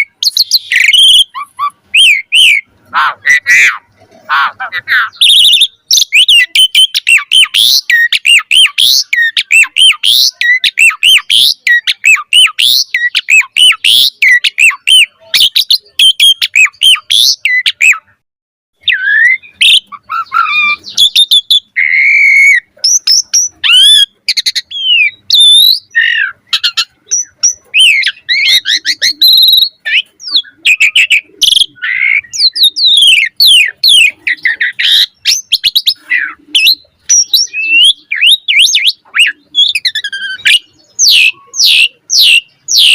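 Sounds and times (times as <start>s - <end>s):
starling singing: 0.0s - 18.2s, 18.8s - 42.9s.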